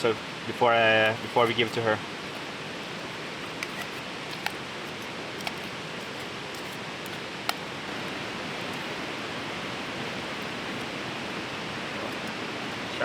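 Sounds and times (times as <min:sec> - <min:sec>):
campfire popping: 0:00.0 - 0:13.0
fast river rushing: 0:00.0 - 0:13.0.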